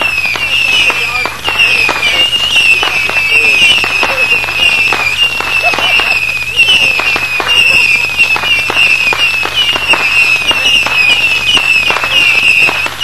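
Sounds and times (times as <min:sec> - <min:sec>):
fireworks bangs: 0:00.0 - 0:13.0
wavering high whistle: 0:00.0 - 0:13.0.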